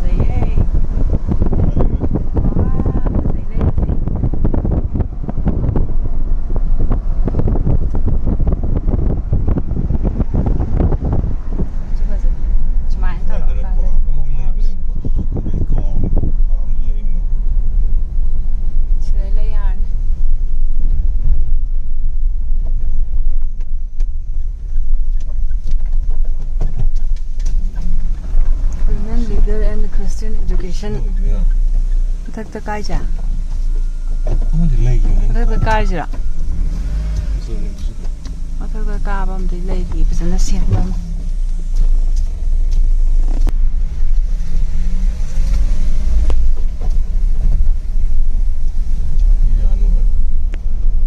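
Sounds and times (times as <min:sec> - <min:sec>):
car interior rumble: 0:00.0 - 0:51.0.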